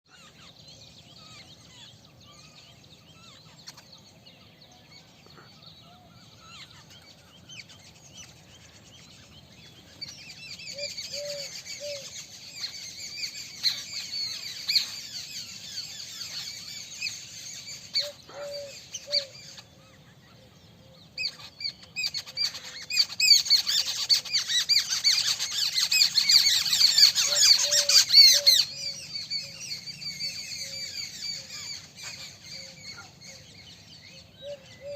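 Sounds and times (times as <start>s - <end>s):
flock of small birds chirping: 0.0s - 34.9s.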